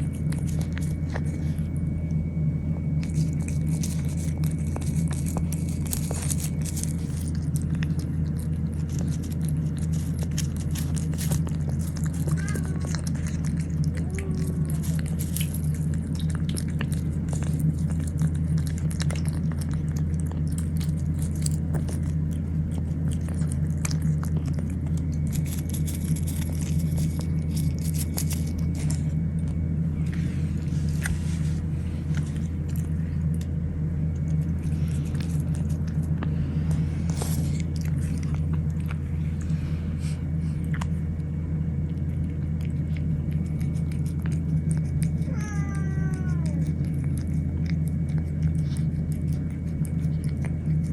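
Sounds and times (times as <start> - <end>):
cat chewing food: 0.0 - 50.9
steady low hum: 0.0 - 50.9.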